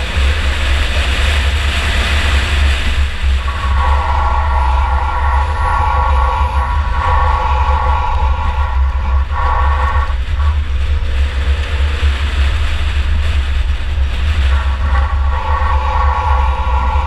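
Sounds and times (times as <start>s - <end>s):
car engine low rumble: 0.0s - 17.0s
hissing road rush: 0.0s - 17.0s.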